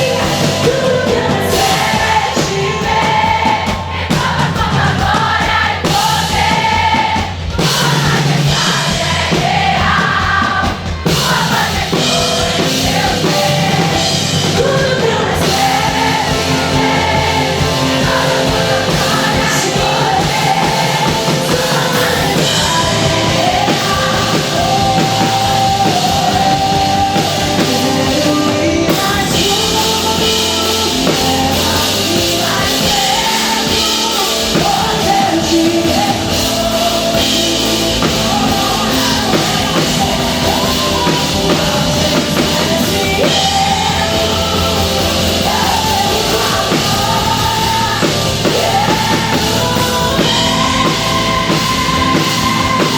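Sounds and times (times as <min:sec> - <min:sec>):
loud rock band: 0:00.0 - 0:52.9
person singing: 0:00.0 - 0:52.9.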